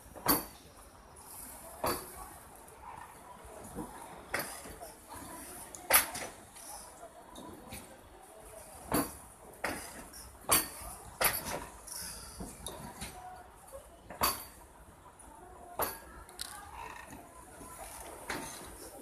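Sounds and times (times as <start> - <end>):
train wheels clanking over track: 0.0 - 2.4, 3.0 - 14.7, 15.7 - 19.0
low train running noise: 0.0 - 19.0.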